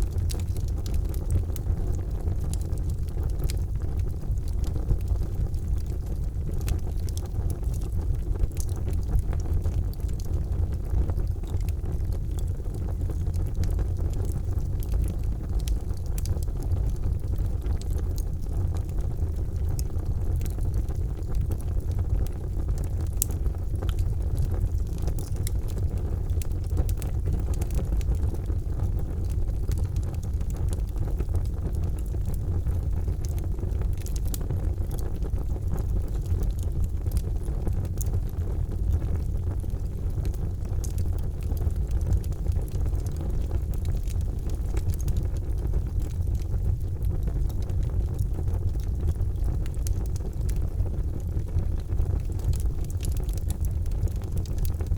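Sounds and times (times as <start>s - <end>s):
fire crackling and popping: 0.0s - 54.9s
fire low rumble: 0.0s - 54.9s.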